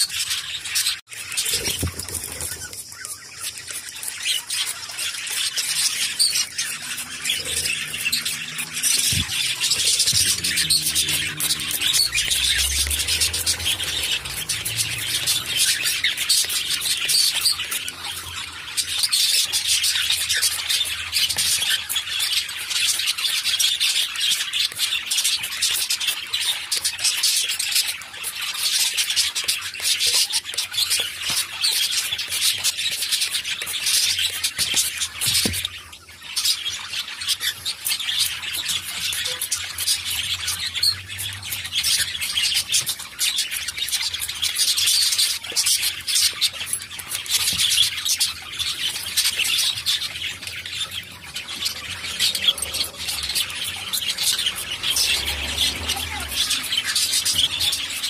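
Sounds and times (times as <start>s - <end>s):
cockatiels chirping and squawking: 0.0s - 58.0s.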